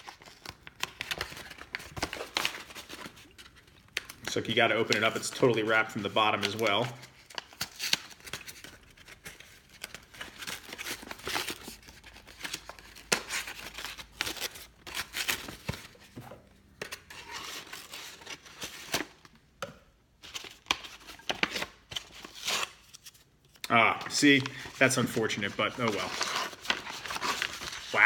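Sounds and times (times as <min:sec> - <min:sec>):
paper tearing and crinkling: 0:00.0 - 0:16.2, 0:20.2 - 0:28.0.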